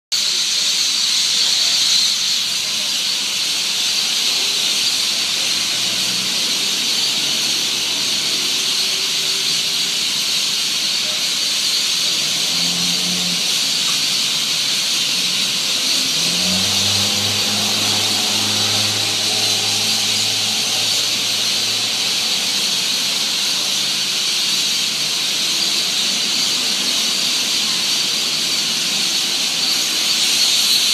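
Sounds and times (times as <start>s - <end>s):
flock of birds calling: 0.3s - 30.9s.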